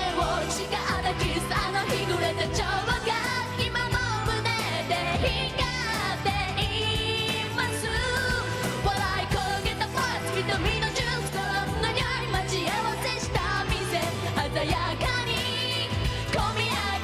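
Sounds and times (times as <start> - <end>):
female vocal group singing: 0.0 - 17.0
pop band backing: 0.0 - 17.0.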